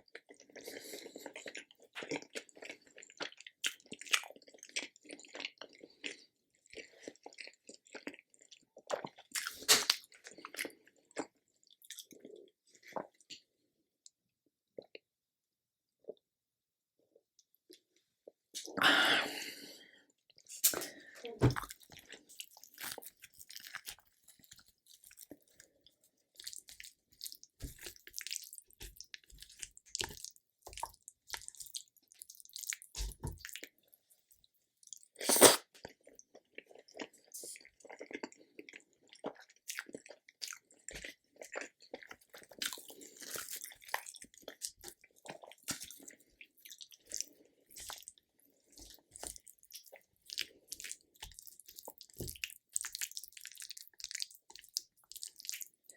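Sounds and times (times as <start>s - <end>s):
chewing and crunching food: 0.0s - 15.1s, 17.0s - 55.9s.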